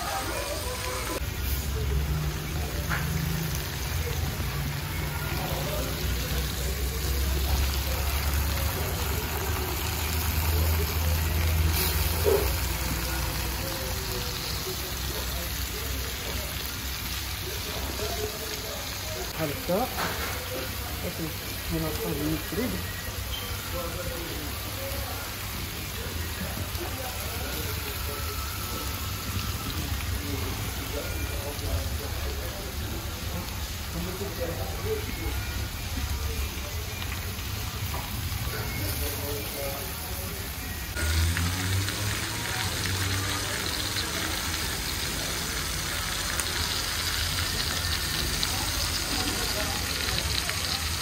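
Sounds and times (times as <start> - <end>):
food sizzling and hissing: 0.0 - 51.0
indistinct voices: 0.0 - 51.0.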